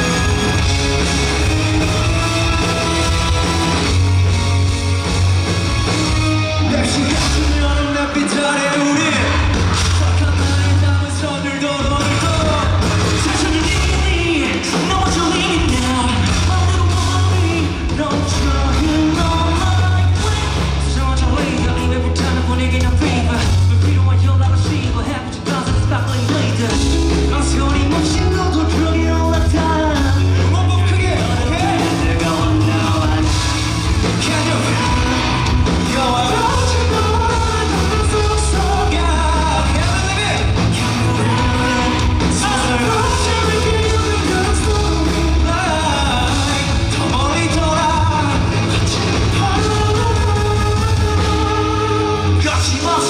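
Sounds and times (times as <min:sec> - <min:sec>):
live rock band with singer: 0:00.0 - 0:53.0.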